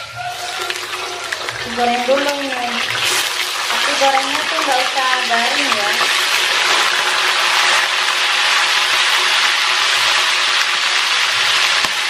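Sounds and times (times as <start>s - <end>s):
food sizzling in hot oil: 0.1s - 12.0s.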